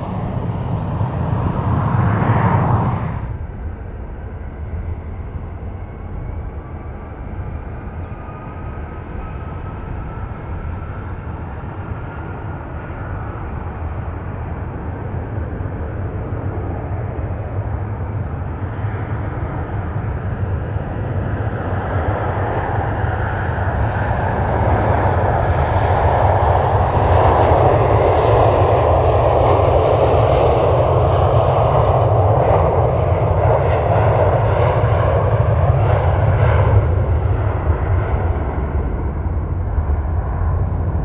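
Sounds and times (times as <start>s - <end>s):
jet engines roaring: 0.0s - 41.0s.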